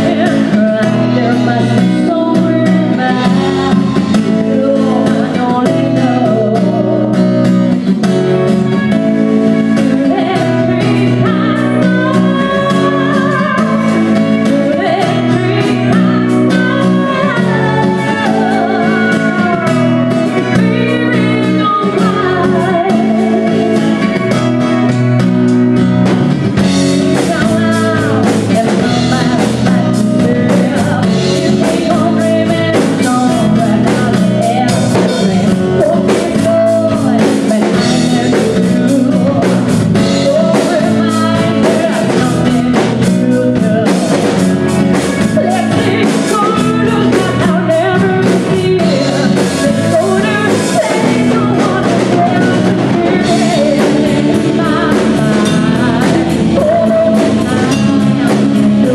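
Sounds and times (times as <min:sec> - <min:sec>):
drum kit: 0:00.0 - 0:58.9
electric guitar: 0:00.0 - 0:58.9
person singing lead vocals: 0:00.0 - 0:58.9.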